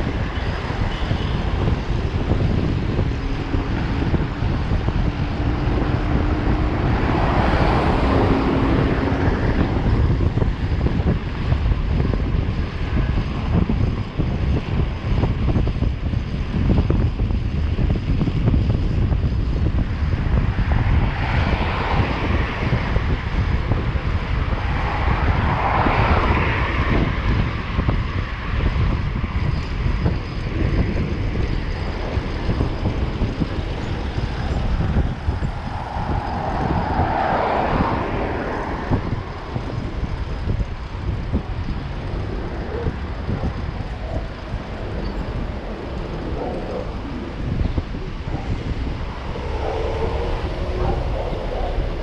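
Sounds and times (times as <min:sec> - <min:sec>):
passing vehicles: 0:00.0 - 0:52.0
wind buffeting microphone: 0:00.0 - 0:52.0.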